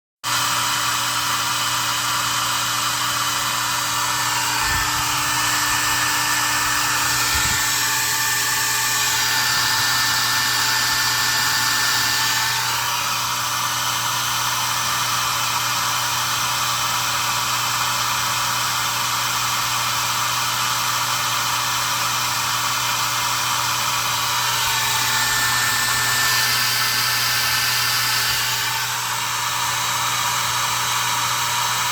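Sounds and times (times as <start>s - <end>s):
hair dryer blowing: 0.3s - 31.9s.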